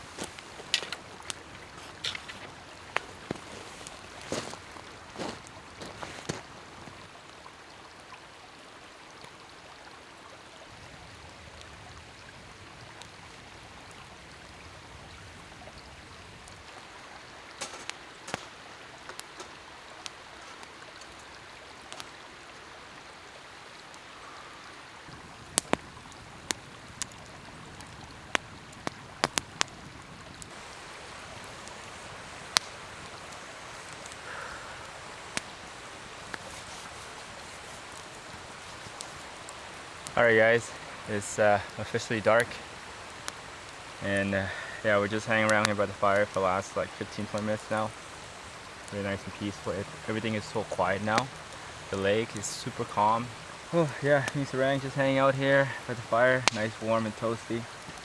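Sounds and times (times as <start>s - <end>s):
burning wood popping: 0.0s - 7.1s, 10.7s - 58.0s
campfire hissing: 0.0s - 58.0s.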